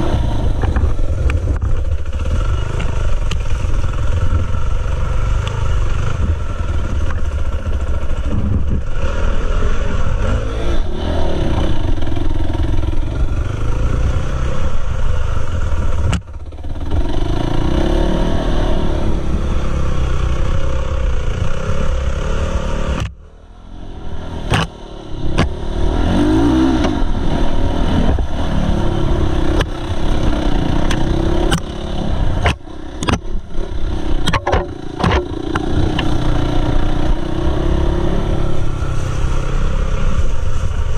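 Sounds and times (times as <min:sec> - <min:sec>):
dirt bike engine revving: 0:02.0 - 0:15.9, 0:16.6 - 0:40.4.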